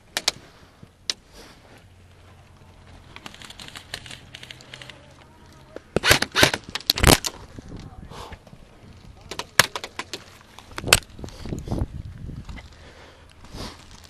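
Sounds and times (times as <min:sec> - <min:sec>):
crackling rustles: 0:00.0 - 0:14.0.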